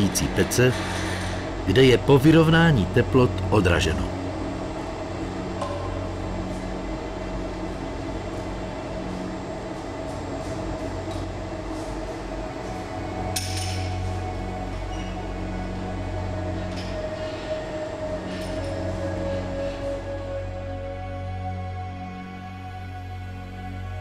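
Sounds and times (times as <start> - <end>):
furnaces humming: 0.0 - 24.0.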